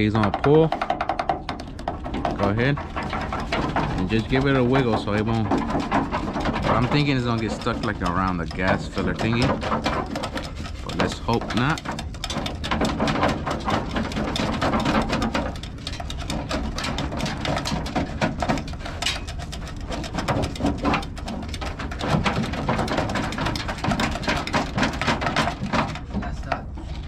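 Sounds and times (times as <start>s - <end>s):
wiring harness rustling and scraping: 0.0s - 27.0s.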